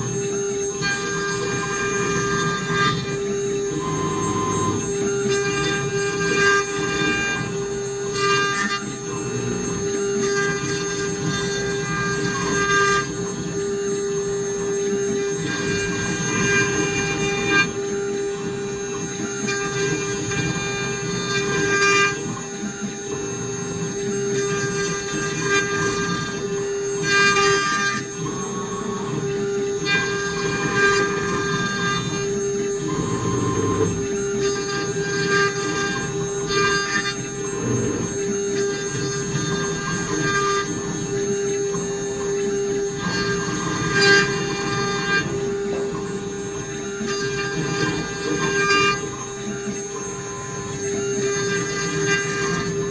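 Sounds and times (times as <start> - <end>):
bit cutting wood: 0.0 - 52.9
router spindle whine: 0.0 - 52.9.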